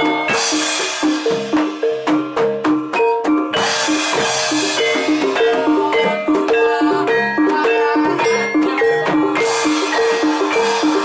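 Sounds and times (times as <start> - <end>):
gamelan mallet instruments: 0.0 - 11.0
sharp drum strokes: 0.0 - 11.0.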